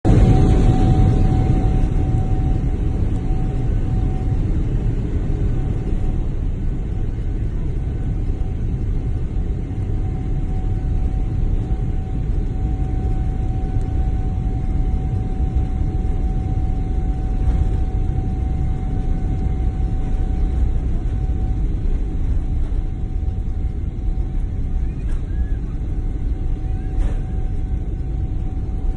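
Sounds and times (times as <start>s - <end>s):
airliner cabin engine rumble: 0.0s - 28.9s.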